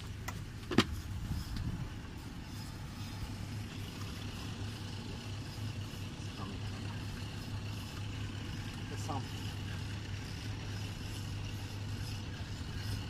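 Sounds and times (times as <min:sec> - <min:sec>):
outboard motor idling: 0:00.0 - 0:13.0
wind: 0:00.0 - 0:13.0.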